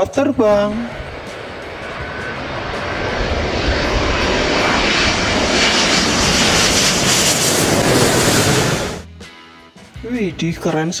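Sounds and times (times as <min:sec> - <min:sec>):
jet engine roar overhead: 0:00.0 - 0:09.1.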